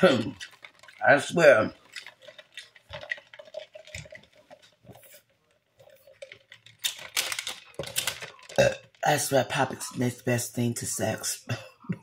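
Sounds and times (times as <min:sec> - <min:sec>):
slurping through a straw: 0:00.0 - 0:10.4.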